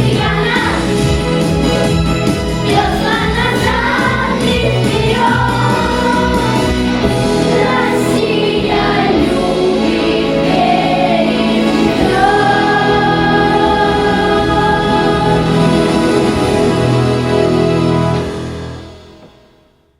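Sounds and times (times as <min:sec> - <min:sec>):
choir singing: 0:00.0 - 0:18.7
instrumental accompaniment: 0:00.0 - 0:19.7.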